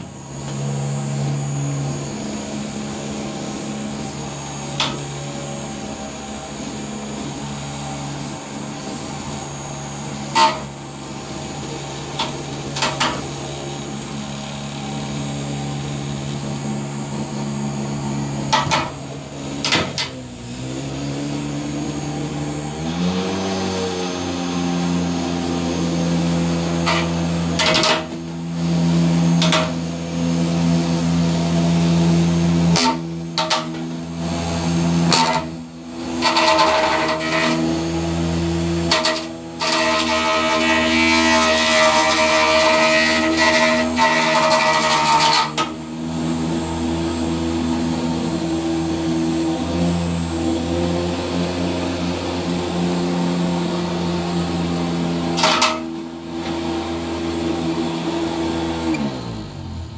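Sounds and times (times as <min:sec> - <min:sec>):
robot motor whine: 0:00.0 - 0:52.1.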